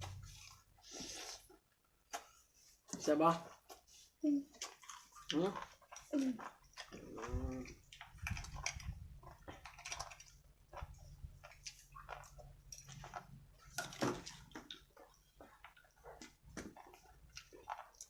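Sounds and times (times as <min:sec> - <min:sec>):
person chewing and smacking: 0:00.0 - 0:02.9, 0:03.5 - 0:18.0.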